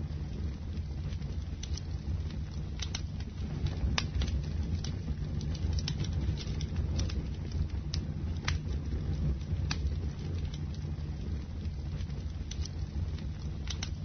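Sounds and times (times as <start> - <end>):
bonfire rumbling: 0.0 - 14.0
wood crackling: 0.0 - 14.0.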